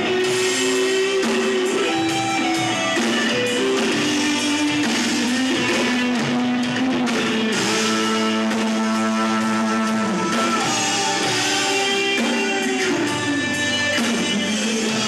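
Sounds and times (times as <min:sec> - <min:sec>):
electric guitar held notes: 0:00.0 - 0:15.0
live rock band: 0:00.0 - 0:15.0.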